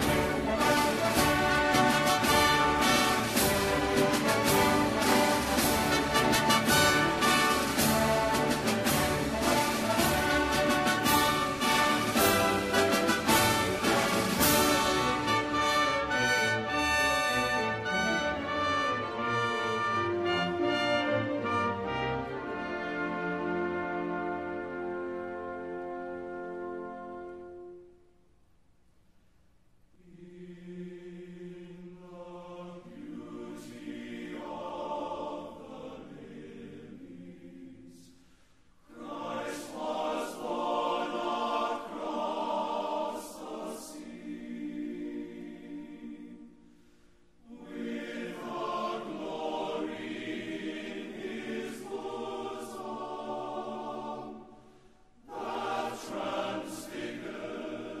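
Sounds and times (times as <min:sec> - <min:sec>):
choir singing sustained chords: 0:00.0 - 0:28.2, 0:29.9 - 0:58.0.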